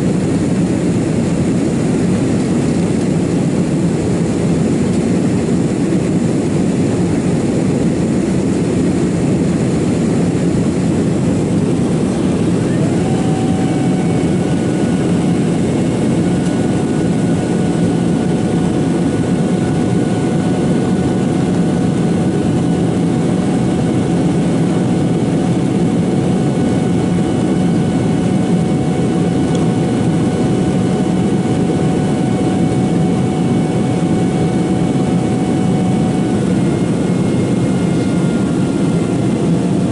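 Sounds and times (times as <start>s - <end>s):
jet engines and airflow in cabin: 0.0s - 39.9s
steady high hum: 0.0s - 39.9s.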